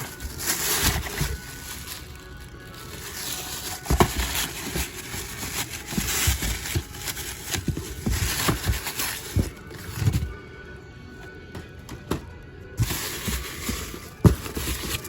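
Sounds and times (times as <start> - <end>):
cardboard rustling: 0.0 - 10.4, 12.8 - 15.0.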